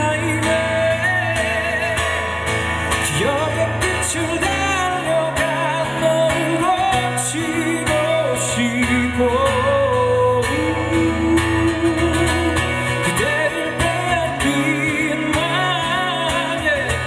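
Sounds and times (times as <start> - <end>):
live band playing pop-rock: 0.0 - 17.0.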